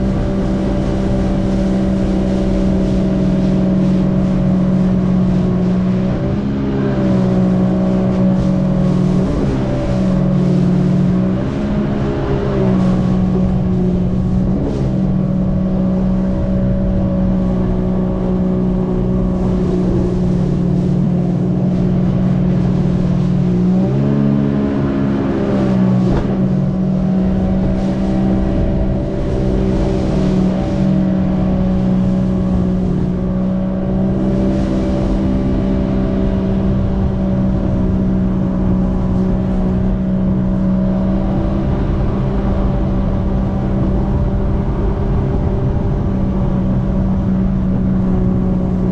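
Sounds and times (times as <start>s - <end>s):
jet ski engine running: 0.0s - 48.9s
water rushing along hull: 0.0s - 48.9s.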